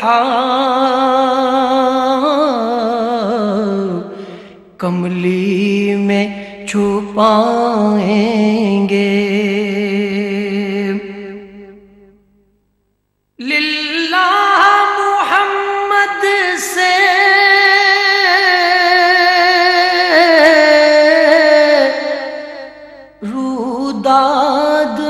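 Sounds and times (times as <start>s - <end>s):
person singing unaccompanied: 0.0s - 12.1s, 13.4s - 25.0s.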